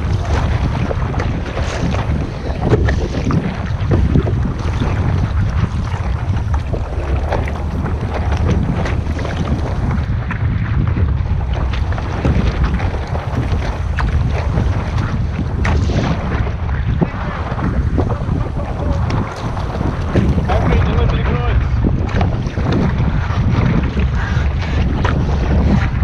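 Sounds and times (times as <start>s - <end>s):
crackling water noise: 0.0s - 26.0s
wind buffeting microphone: 0.0s - 26.0s.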